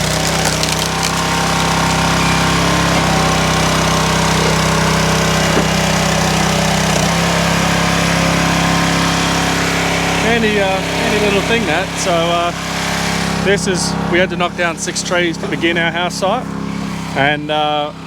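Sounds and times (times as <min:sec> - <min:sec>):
log splitter engine running: 0:00.0 - 0:18.0.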